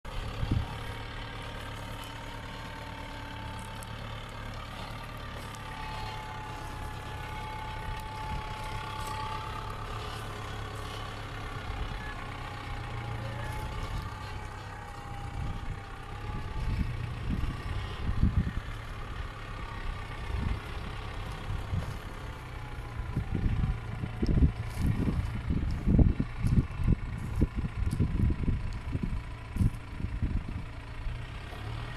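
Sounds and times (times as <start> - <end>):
tractor diesel engine running: 0.0 - 31.9
wind buffeting microphone: 0.1 - 1.0, 5.7 - 30.9.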